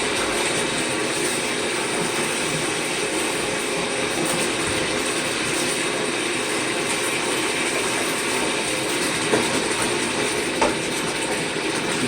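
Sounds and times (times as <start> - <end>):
running water from a tap: 0.0 - 12.0.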